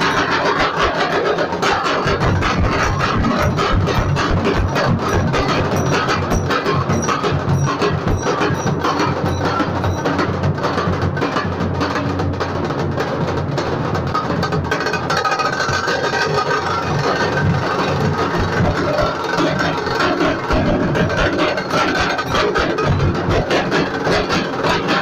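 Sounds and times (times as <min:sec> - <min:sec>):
loud dense drumming: 0:00.0 - 0:25.0.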